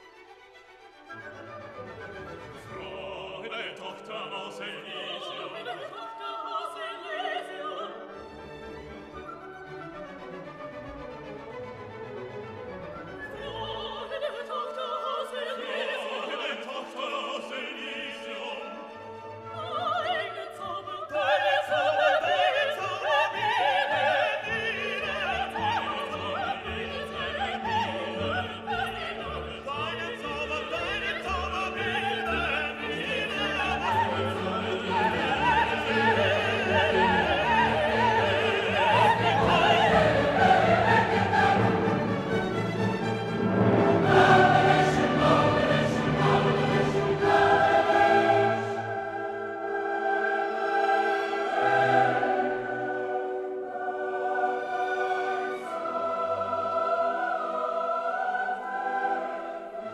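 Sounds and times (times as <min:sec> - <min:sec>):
classical orchestral music: 0:00.0 - 0:59.9
operatic singing: 0:00.0 - 0:59.9.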